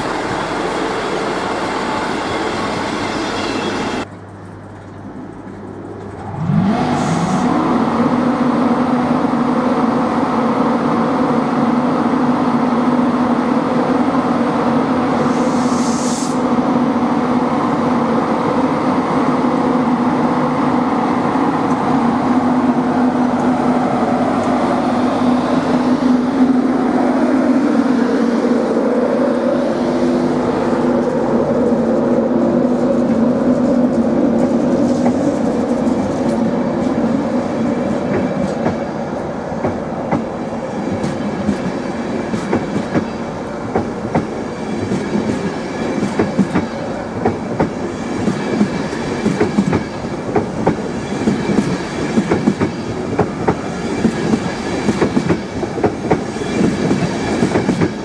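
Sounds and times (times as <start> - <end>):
electric locomotive hum rising: 0.0 - 58.0.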